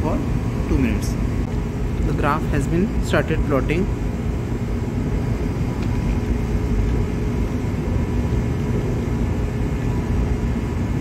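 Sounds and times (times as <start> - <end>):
faint steady hum: 0.0 - 11.0
machinery droning: 0.0 - 11.0.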